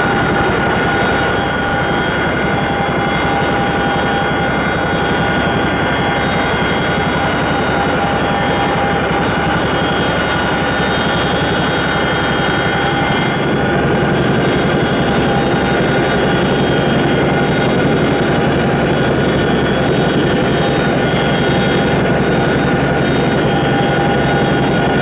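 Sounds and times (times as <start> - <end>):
helicopter cabin din: 0.0 - 25.0
high steady whining tones: 0.0 - 25.0.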